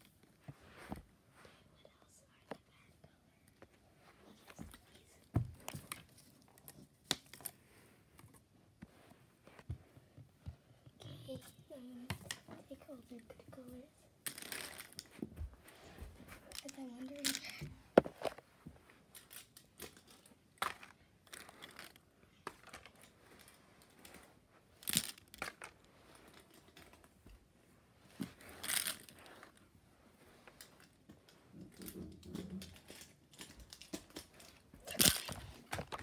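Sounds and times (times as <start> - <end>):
rustles and handling noises: 0.0 - 36.0.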